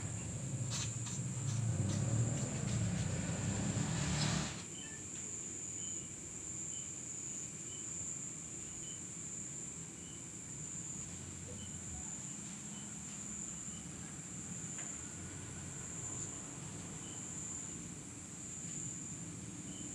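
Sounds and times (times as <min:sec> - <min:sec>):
high-pitched insect chorus: 0:00.0 - 0:19.9.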